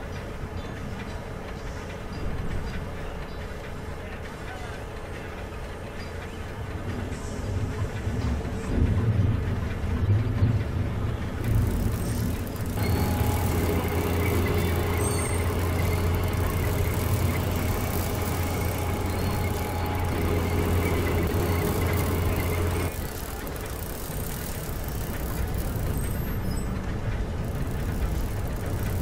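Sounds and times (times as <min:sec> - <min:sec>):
model crane mechanical hum: 0:00.0 - 0:29.0.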